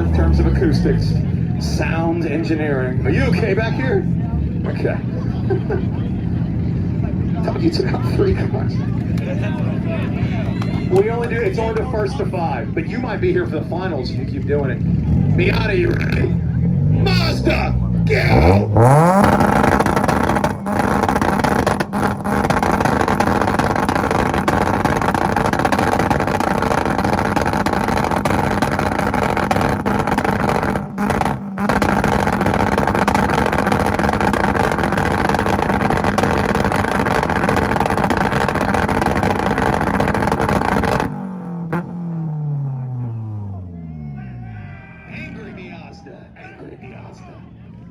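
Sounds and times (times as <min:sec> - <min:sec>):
car engine at high revs: 0:00.0 - 0:44.5.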